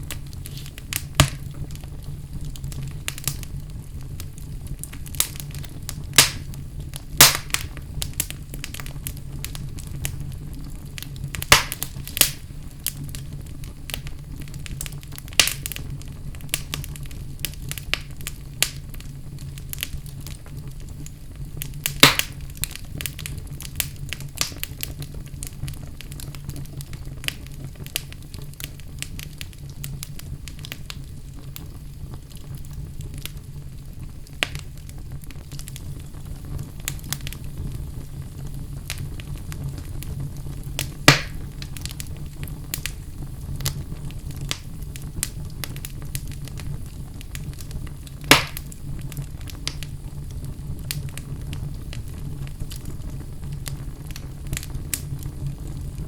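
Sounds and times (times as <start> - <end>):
fire flames rumbling: 0.0 - 56.0
wood fire crackling and popping: 0.0 - 56.0.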